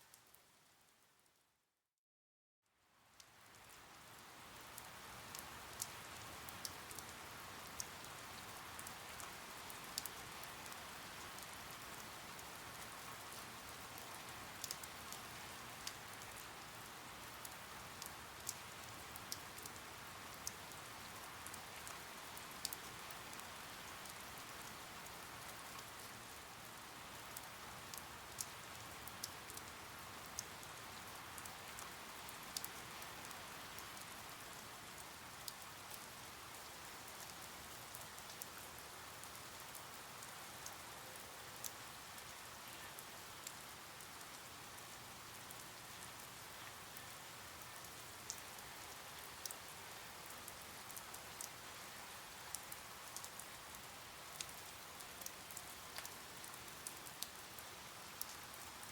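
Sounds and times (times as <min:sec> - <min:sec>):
steady rain falling: 0:00.0 - 0:01.4, 0:02.6 - 0:58.9.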